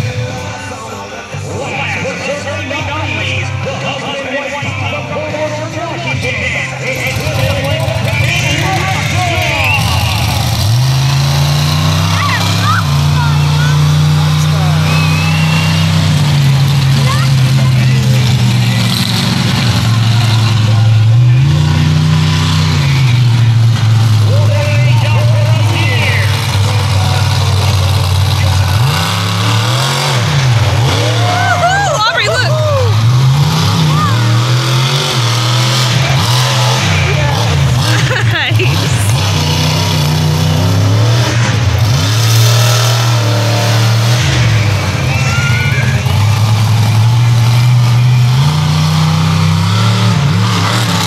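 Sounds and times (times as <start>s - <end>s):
truck engine revving loud: 0.0s - 51.0s.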